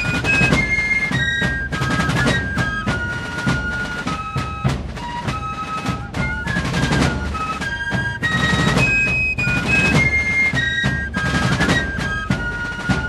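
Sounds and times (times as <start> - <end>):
high flute melody: 0.0 - 13.0
snare and bass drums: 0.0 - 13.0.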